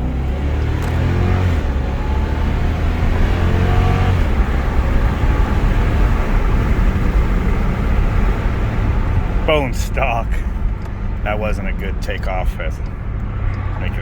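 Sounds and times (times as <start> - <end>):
car engine deep rumble: 0.0 - 14.0
road noise: 0.0 - 14.0.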